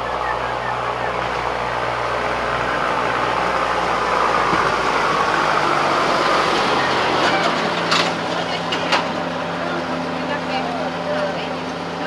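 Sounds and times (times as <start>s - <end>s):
vehicle motor humming: 0.0s - 12.0s.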